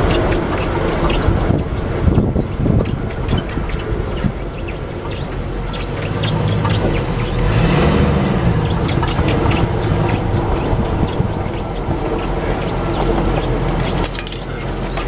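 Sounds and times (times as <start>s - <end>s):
sharp clicks and rattles: 0.0s - 15.0s
truck engine running: 0.0s - 15.0s.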